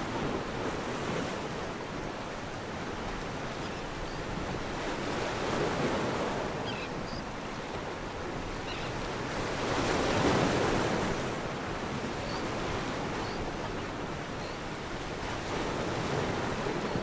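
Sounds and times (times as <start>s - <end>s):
sea surf washing on beach: 0.0s - 17.0s.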